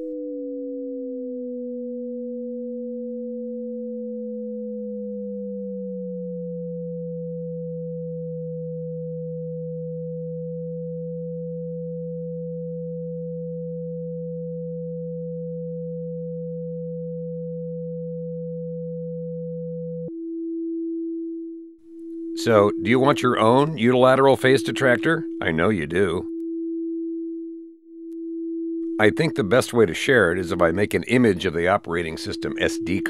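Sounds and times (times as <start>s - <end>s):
lower sliding sine tone: 0.0s - 33.0s
steady higher sine tone: 0.0s - 33.0s
steady middle sine tone: 0.0s - 33.0s.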